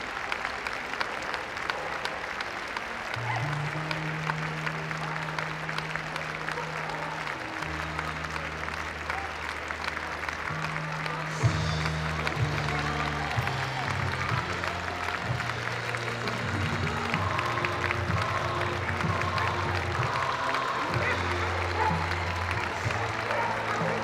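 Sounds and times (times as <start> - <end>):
audience applauding: 0.0 - 24.0
music playing: 3.2 - 24.0.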